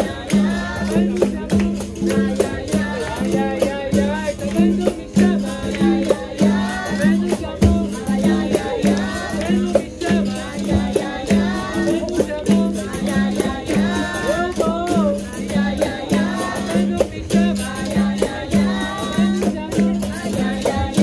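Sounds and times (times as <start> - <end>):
call-and-response group singing: 0.0 - 21.0
shaker rattle: 0.0 - 21.0
sharp percussive strikes: 0.0 - 21.0.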